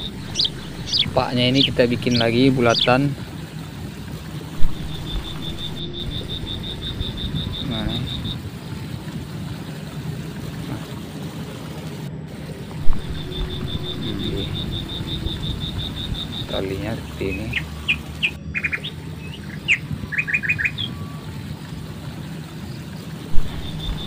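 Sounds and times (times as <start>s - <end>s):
animal pulsing trill: 0.0s - 24.0s
low outdoor rumble: 0.0s - 24.0s.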